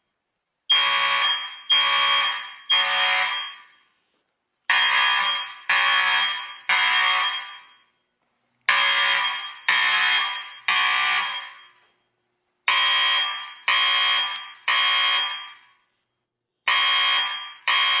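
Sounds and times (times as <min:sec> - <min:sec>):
fire alarm ringing: 0:00.7 - 0:04.1, 0:04.7 - 0:08.1, 0:08.7 - 0:15.9, 0:16.7 - 0:18.0.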